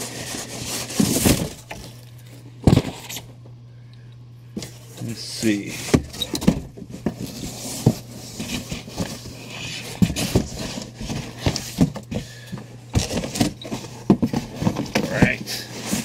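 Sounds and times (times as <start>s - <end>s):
cardboard scraping and rustling: 0.0s - 3.3s, 4.6s - 16.0s.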